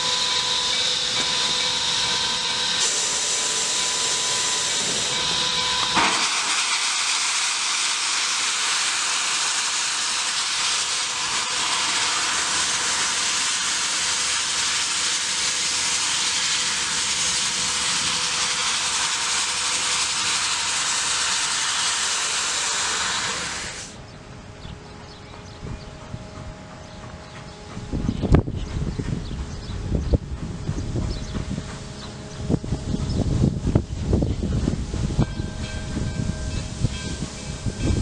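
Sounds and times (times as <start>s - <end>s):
steam locomotive venting steam: 0.0s - 24.0s, 25.7s - 38.0s.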